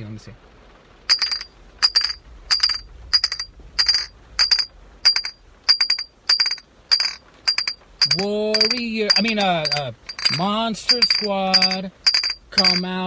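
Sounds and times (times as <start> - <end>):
glass bottles clinking: 1.1 - 13.0.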